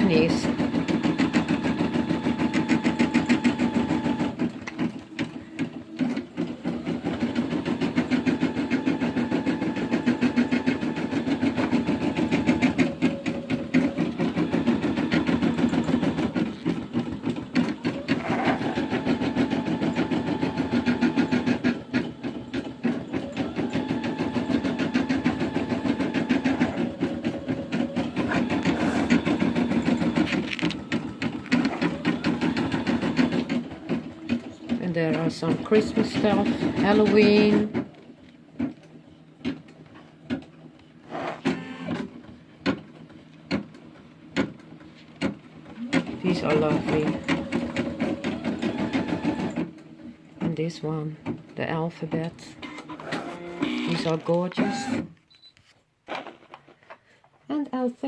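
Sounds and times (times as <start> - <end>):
embroidery machine stitching: 0.0 - 38.0, 39.4 - 49.8, 51.2 - 55.1.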